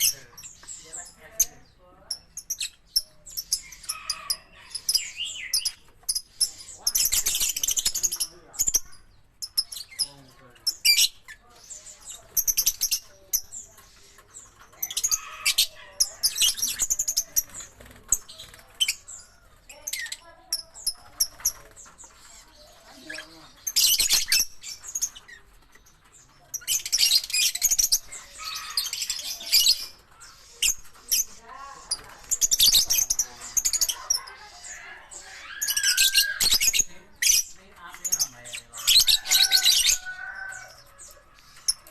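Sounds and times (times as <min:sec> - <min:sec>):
lovebirds chirping and chattering: 0:00.0 - 0:41.9.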